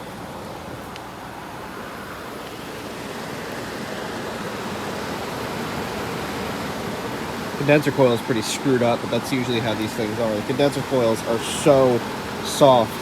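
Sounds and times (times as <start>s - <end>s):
air conditioner fan blowing: 0.0s - 13.0s.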